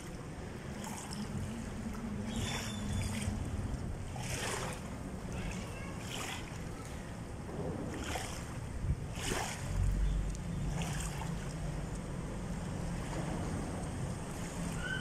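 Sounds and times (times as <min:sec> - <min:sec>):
small waves lapping and splashing: 0:00.0 - 0:15.0
wind buffeting microphone: 0:00.0 - 0:15.0.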